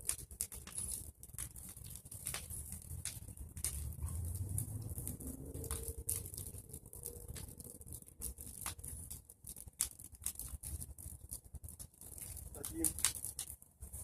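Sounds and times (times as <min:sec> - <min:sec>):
fire crackling: 0:00.0 - 0:14.0
sharp pops and snaps: 0:00.0 - 0:14.0.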